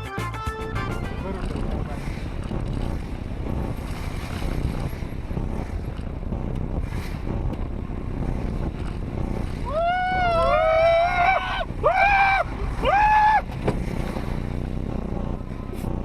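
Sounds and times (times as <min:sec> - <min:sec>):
car driving rumble: 0:00.6 - 0:16.0.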